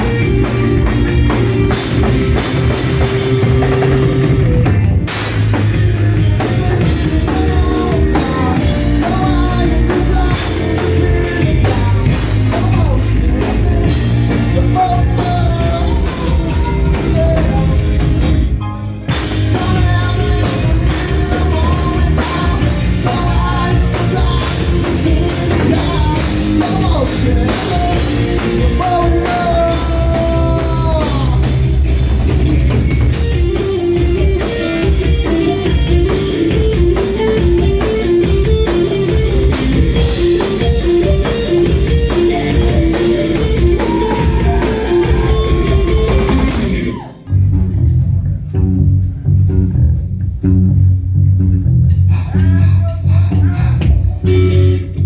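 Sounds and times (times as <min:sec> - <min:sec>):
bass guitar: 0:00.0 - 0:55.0
rock band playing live: 0:00.0 - 0:55.0.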